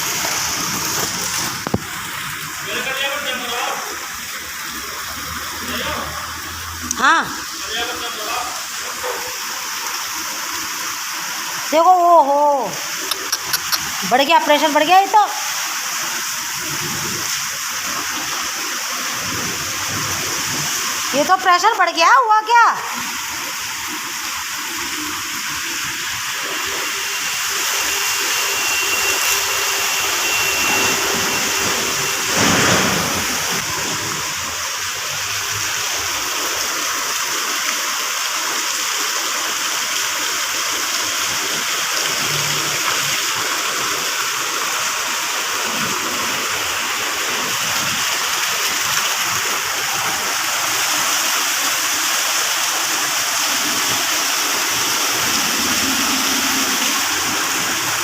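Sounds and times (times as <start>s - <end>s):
water rushing and splashing: 0.0s - 58.0s.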